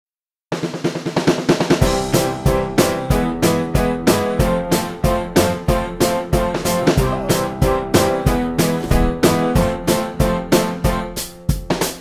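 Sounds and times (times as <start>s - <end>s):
keyboard chords over a beat: 1.8s - 12.0s.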